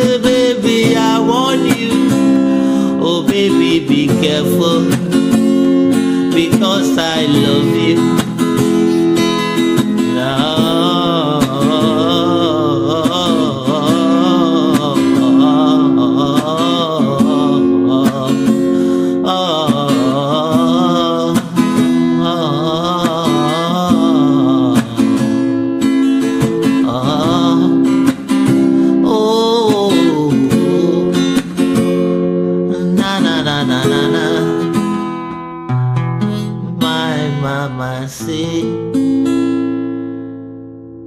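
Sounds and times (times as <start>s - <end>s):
wordless vocal melody: 0.0s - 39.8s
acoustic guitar strumming: 0.0s - 41.0s.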